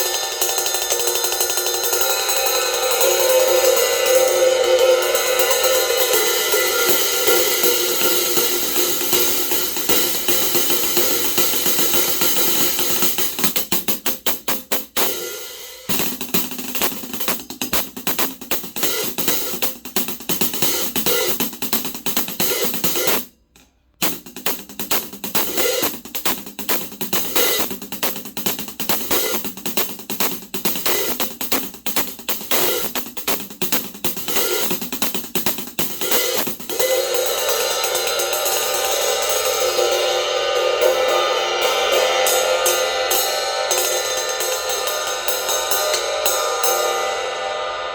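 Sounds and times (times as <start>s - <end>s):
hi-hat cymbals played fast: 0.0s - 23.3s, 24.0s - 47.9s
drums: 0.0s - 47.6s.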